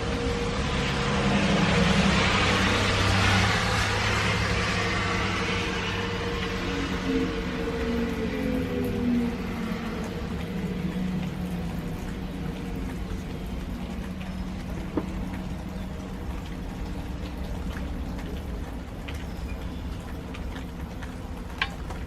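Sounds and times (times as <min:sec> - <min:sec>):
distant warning siren: 0:00.0 - 0:22.0
rain-like rushing noise: 0:00.0 - 0:22.0.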